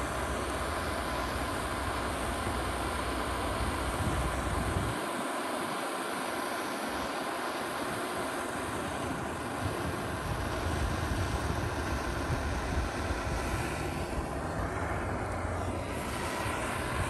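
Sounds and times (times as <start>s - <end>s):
blowtorch flame roaring: 0.0s - 17.0s.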